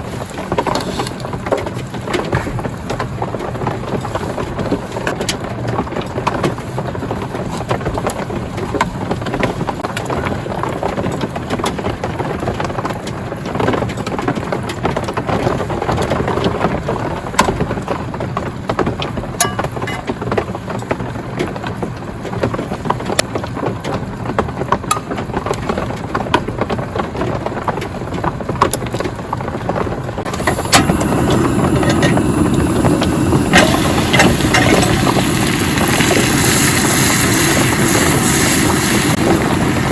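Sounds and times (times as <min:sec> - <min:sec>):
rain on a tarp: 0:00.0 - 0:39.9.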